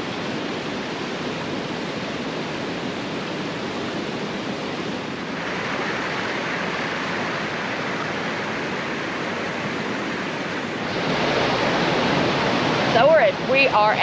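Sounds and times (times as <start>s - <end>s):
creek water rushing: 0.0s - 14.0s
waterfall pouring over boulders: 0.0s - 14.0s.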